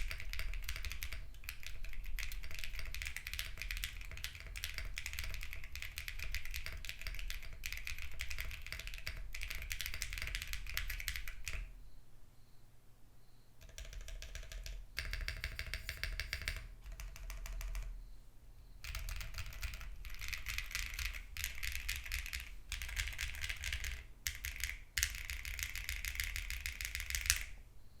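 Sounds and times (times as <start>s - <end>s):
mechanical keyboard typing: 0.0s - 11.7s, 13.6s - 18.0s, 18.8s - 27.6s.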